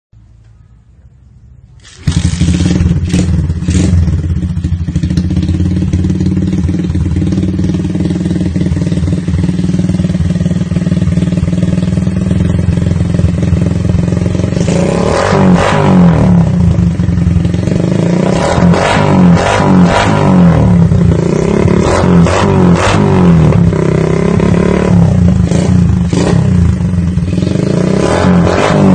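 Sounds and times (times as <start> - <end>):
motorcycle engine idling and revving: 0.2 - 28.9.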